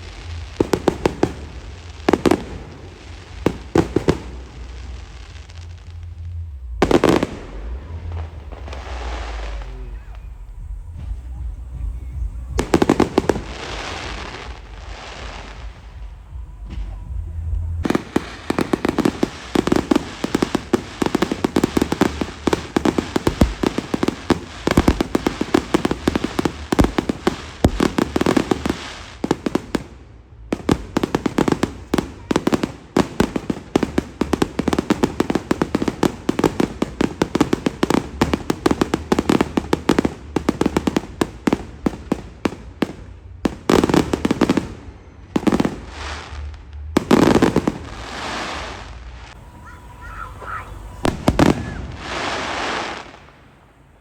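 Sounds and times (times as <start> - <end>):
fireworks crackling: 0.0 - 54.0
heavy firework bursts: 0.0 - 54.0.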